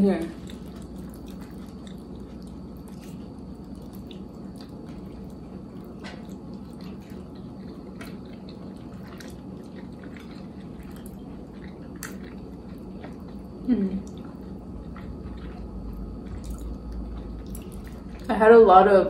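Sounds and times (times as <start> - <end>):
wet chewing: 0.0 - 18.4.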